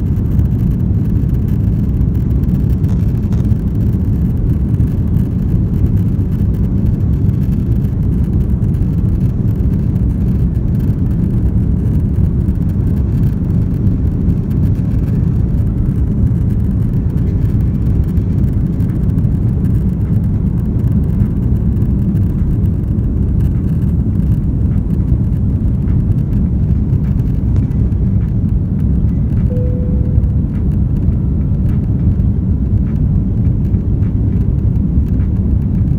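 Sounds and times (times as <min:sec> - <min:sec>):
jet engines rumbling: 0:00.0 - 0:35.9
wheels on runway: 0:00.0 - 0:35.9.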